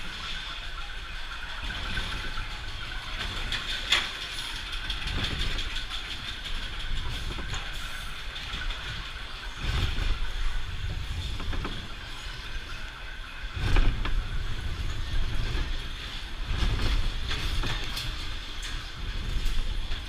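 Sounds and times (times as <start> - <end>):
roller coaster wheels rattling on rails: 0.0 - 20.0.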